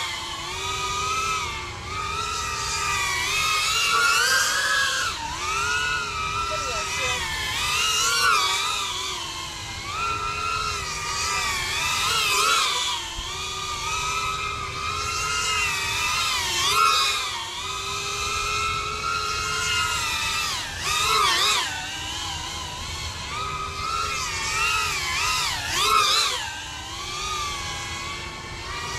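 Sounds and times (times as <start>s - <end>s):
drone propellers whining: 0.0s - 28.9s.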